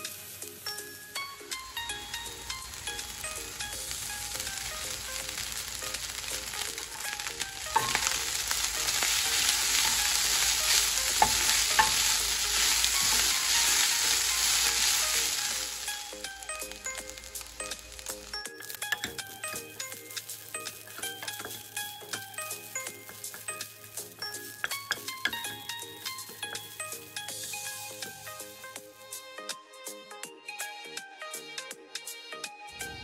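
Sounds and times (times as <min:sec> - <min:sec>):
rice and cabbage sizzling in pan: 0:00.0 - 0:29.5
wooden spatula stirring: 0:01.6 - 0:28.8.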